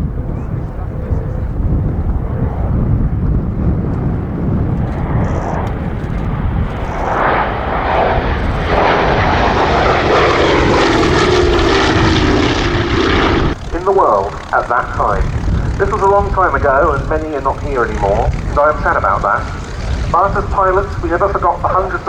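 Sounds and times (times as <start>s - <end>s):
propeller aircraft flying past: 0.0s - 22.0s.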